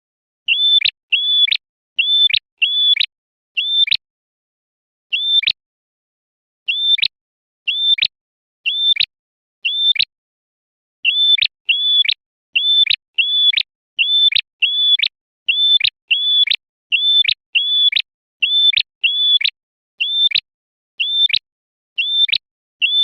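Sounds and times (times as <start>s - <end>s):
small songbird calling: 0.4s - 4.0s, 5.1s - 5.6s, 6.6s - 10.1s, 11.0s - 23.0s.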